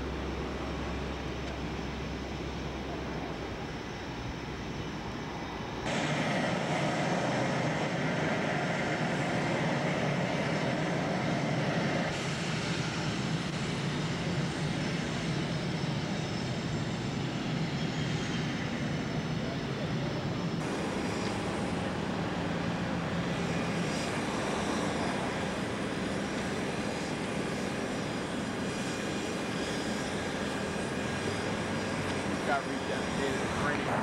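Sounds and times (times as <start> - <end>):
turboprop engines with turbine whine: 0.0 - 34.0.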